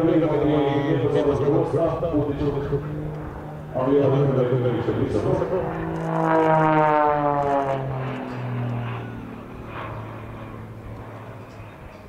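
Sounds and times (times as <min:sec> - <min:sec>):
propeller plane engine: 0:00.0 - 0:12.0.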